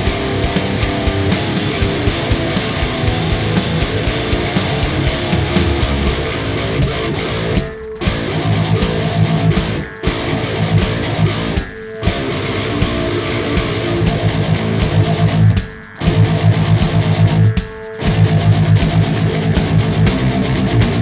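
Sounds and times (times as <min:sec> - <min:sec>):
heavy electric guitar riff: 0:00.0 - 0:21.0.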